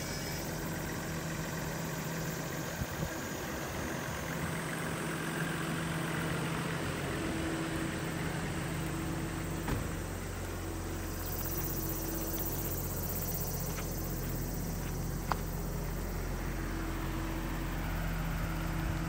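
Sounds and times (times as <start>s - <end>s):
bus diesel engine idling: 0.0s - 19.0s.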